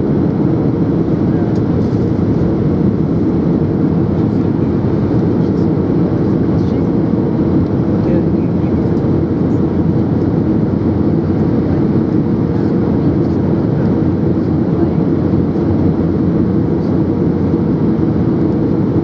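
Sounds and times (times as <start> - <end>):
jet engine drone: 0.0 - 19.0.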